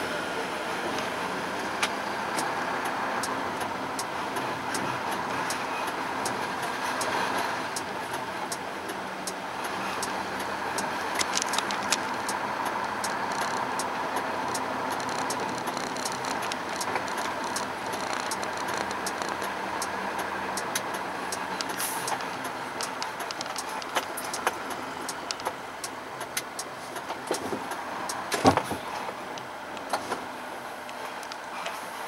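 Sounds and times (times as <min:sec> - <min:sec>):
truck diesel engine: 0:00.0 - 0:32.0
steady ticking: 0:01.8 - 0:28.4.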